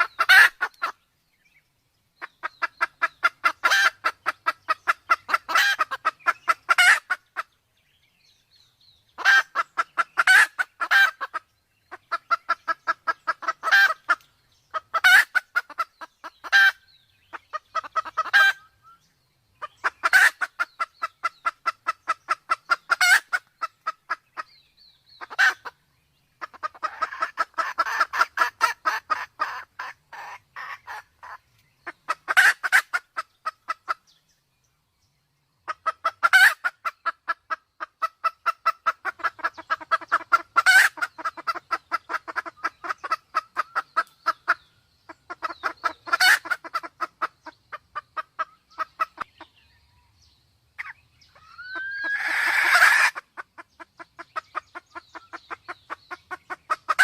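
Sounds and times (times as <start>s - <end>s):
junglefowl clucking: 0.0s - 1.0s, 2.2s - 7.6s, 9.2s - 19.0s, 19.6s - 24.6s, 25.2s - 25.8s, 26.4s - 34.1s, 35.6s - 49.7s, 50.8s - 57.0s.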